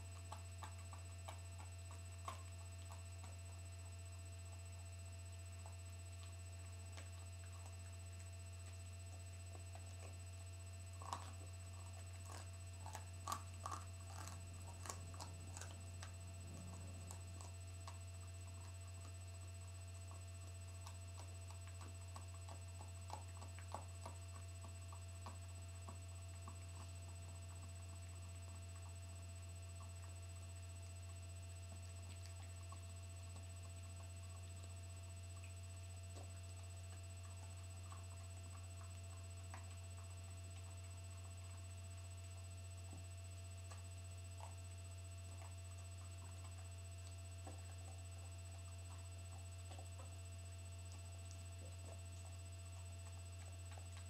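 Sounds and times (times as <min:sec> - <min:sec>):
dog gnawing a bone: 0:00.0 - 0:54.0
low electrical hum: 0:00.0 - 0:54.0.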